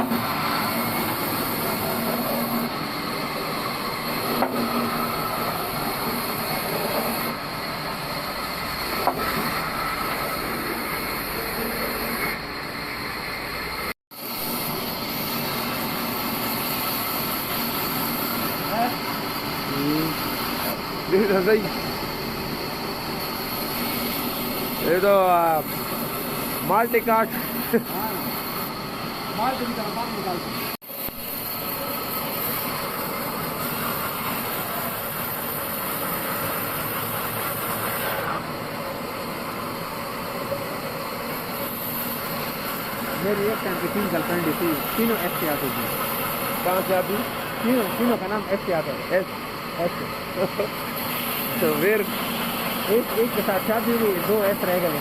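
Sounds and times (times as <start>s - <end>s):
band sawmill running: 0.0s - 55.0s
high hiss: 0.0s - 55.0s.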